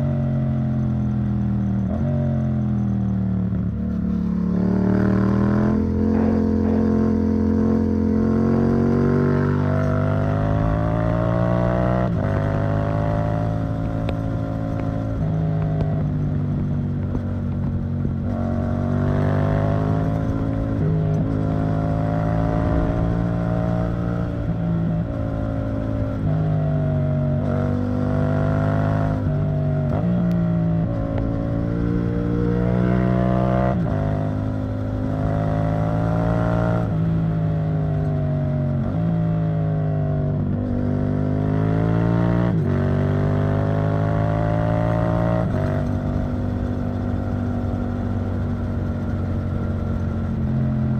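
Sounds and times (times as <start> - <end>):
motorcycle engine with gear changes: 0.0 - 50.9.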